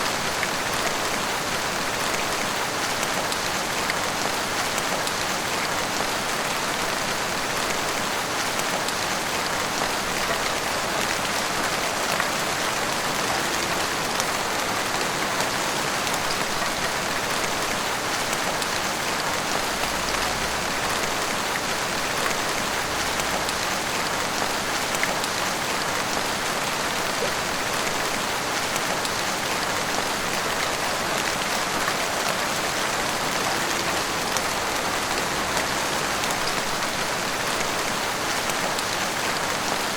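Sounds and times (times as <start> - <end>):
heavy rain on rooftops: 0.0 - 39.9.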